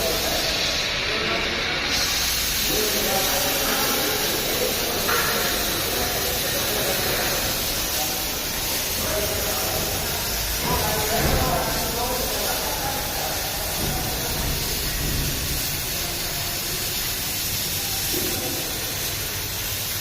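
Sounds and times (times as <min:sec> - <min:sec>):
indistinct voices: 0:00.0 - 0:19.6
steady hiss: 0:00.0 - 0:20.0.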